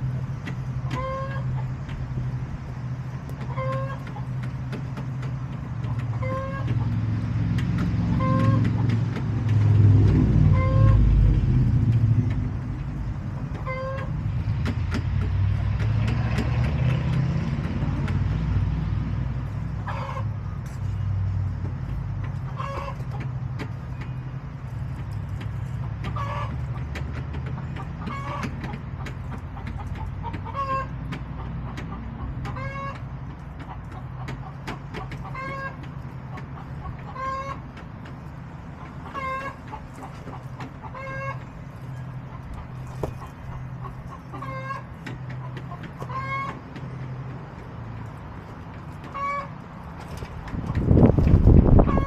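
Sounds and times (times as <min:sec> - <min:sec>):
hens clucking: 0:00.0 - 0:52.0
road traffic rumble: 0:00.0 - 0:52.0.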